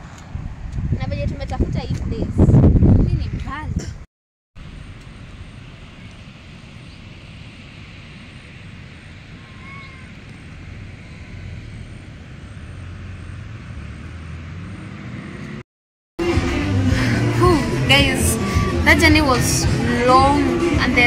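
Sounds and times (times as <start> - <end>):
vehicle rumbling on road: 0.0 - 4.0, 4.6 - 15.6, 16.2 - 21.0.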